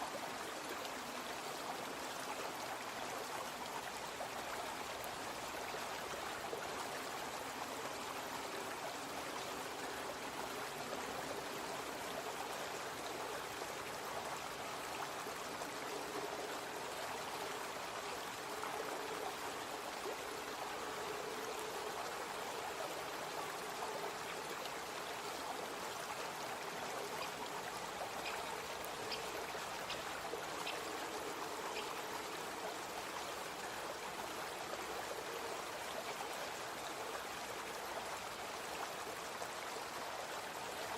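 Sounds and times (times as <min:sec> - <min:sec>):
brook water trickling: 0:00.0 - 0:40.9.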